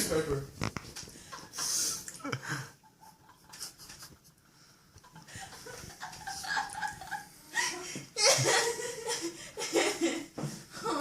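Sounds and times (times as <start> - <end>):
breathy wheezy laugh: 1.2 - 4.2, 5.0 - 11.0.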